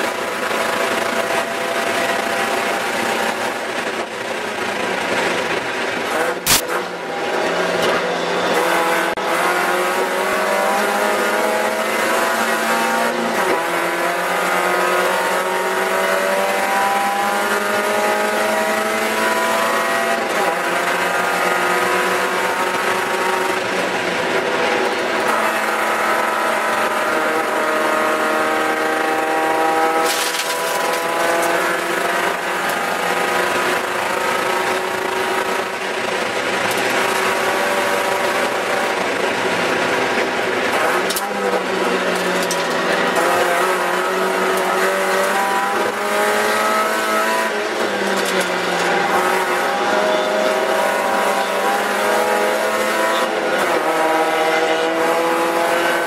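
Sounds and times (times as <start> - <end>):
car engine running hard: 0.0 - 56.0
road and wind noise: 0.0 - 56.0.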